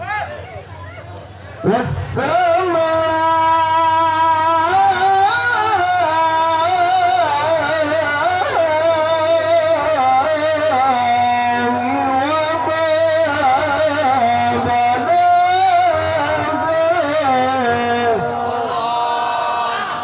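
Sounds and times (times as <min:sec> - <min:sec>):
man reciting melodically: 0:01.4 - 0:20.0.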